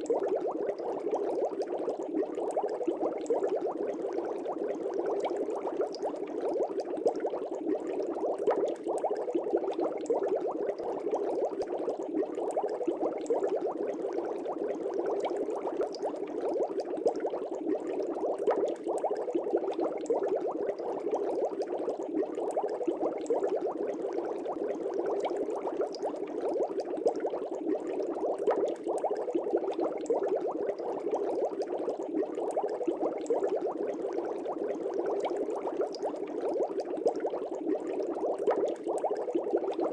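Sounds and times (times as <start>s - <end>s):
aquarium air bubbles: 0.0s - 39.9s.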